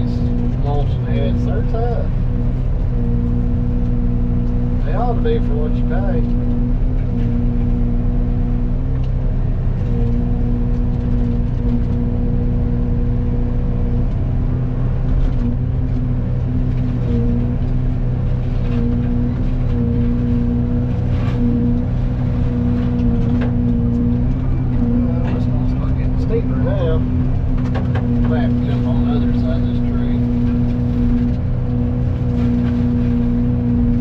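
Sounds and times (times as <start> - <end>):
excavator engine and hydraulic drone: 0.0 - 34.0.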